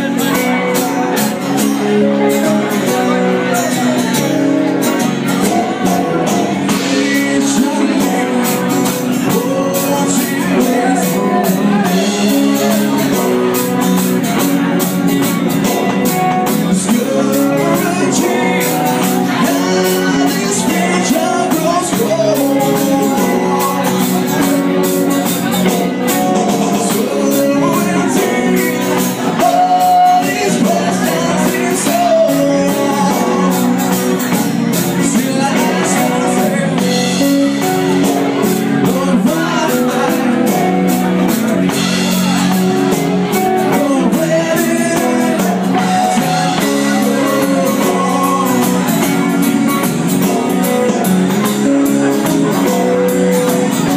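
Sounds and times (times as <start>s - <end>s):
rock band playing: 0.0s - 53.9s.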